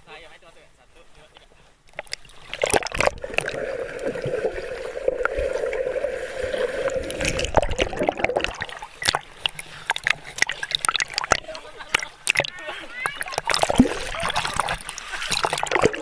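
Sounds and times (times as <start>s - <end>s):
river water gurgling: 1.9s - 16.0s
water splashes: 1.9s - 16.0s.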